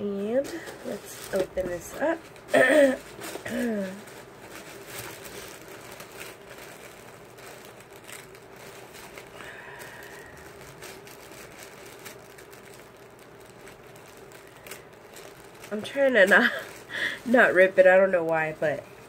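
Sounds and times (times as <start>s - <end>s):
faint steady hum: 0.0s - 19.0s
packaging clicks and scrapes: 0.3s - 17.4s.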